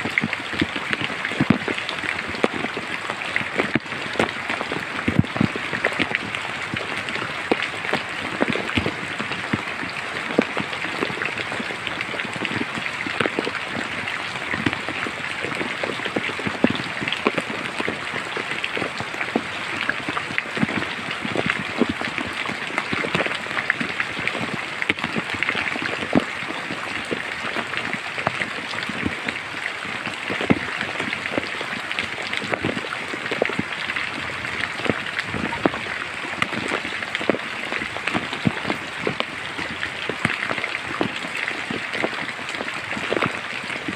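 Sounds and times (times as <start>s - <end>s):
raindrops tapping close by: 0.0s - 43.9s
steady rain hiss: 0.0s - 43.9s.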